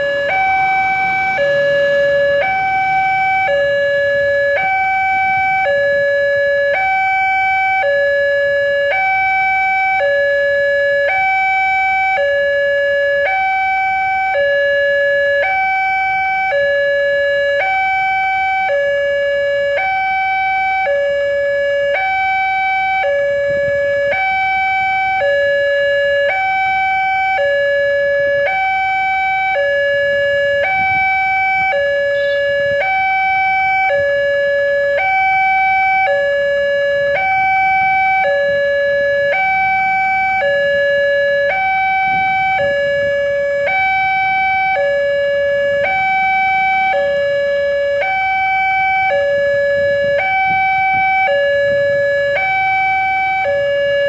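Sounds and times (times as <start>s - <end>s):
level crossing two-tone alarm: 0.0s - 54.0s.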